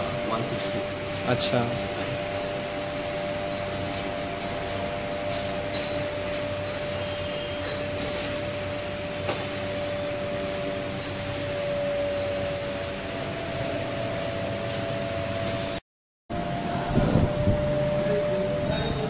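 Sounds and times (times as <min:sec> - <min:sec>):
indoor machine hum: 0:00.0 - 0:19.0.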